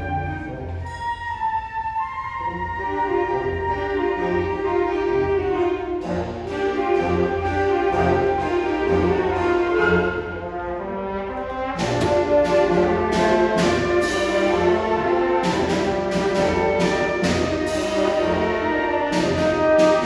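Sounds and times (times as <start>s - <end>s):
concert band playing a tango: 0.0s - 20.0s.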